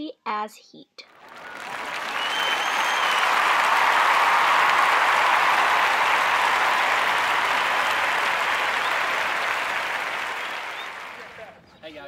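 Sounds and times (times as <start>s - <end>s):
applause: 1.1s - 11.6s.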